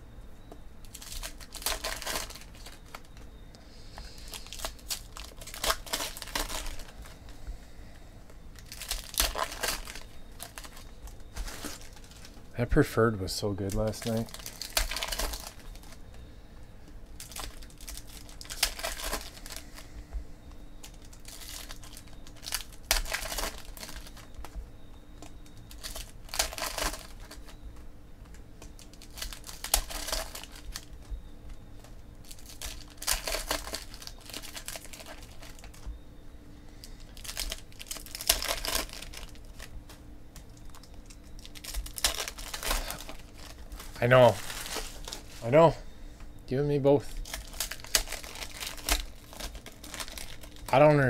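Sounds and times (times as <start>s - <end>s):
handling of cards: 0.5s - 3.3s, 3.9s - 7.5s, 8.5s - 12.5s, 13.4s - 20.2s, 20.8s - 36.0s, 36.7s - 45.7s, 46.9s - 51.0s
foil wrappers crinkling and tearing: 0.8s - 7.4s, 8.5s - 16.2s, 17.0s - 20.0s, 20.8s - 27.6s, 28.2s - 35.9s, 36.7s - 45.7s, 46.6s - 51.0s.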